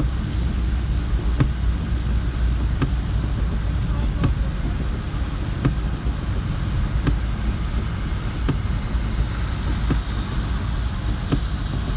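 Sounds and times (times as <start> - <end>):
car engine and road rumble: 0.0 - 11.9
rain hissing: 0.0 - 11.9
windshield wiper knocking: 0.0 - 11.9.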